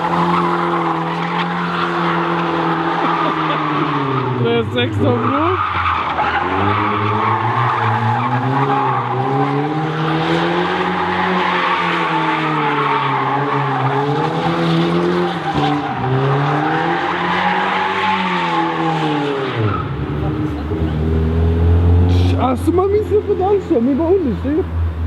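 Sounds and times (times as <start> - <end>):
car engine revving hard: 0.0 - 25.0.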